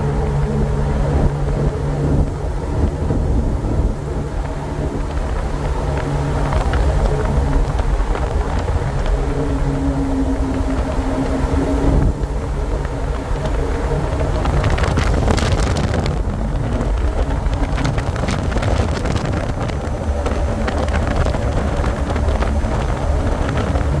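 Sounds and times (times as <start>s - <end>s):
boat engine rumbling: 0.0s - 24.0s
wind buffeting microphone: 0.0s - 24.0s.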